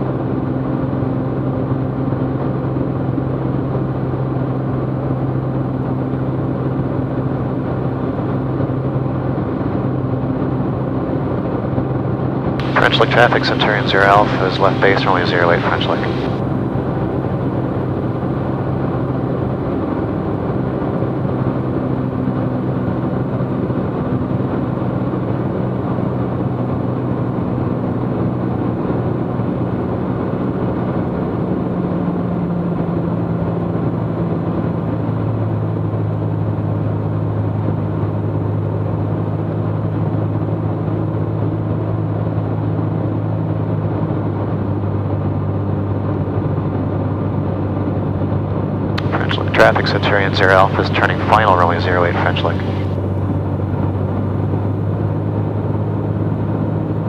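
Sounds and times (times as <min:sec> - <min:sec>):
plane engine droning in cabin: 0:00.0 - 0:57.0.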